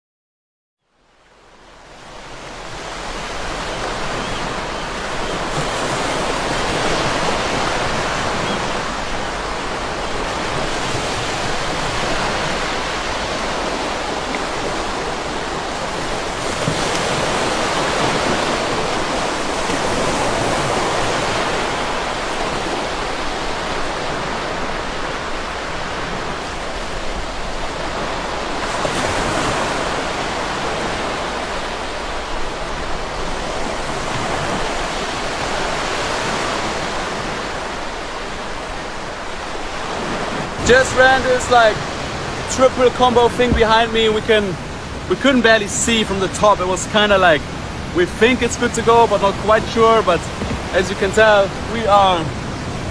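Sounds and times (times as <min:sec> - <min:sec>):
river rapids roaring: 0:01.2 - 0:52.9.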